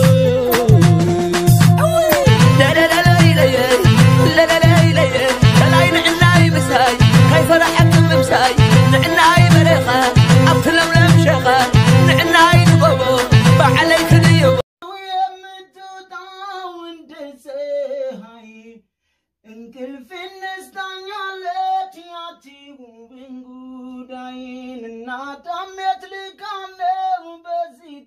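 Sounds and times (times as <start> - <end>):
person singing unaccompanied: 0.0 - 18.8, 19.4 - 28.0.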